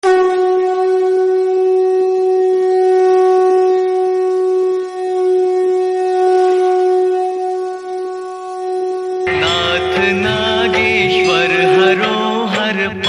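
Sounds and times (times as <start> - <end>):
wind instrument long note: 0.0 - 12.8.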